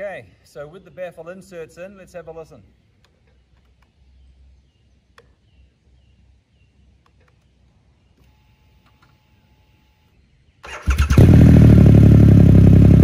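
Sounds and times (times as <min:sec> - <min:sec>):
birds chirping: 0:00.0 - 0:11.1.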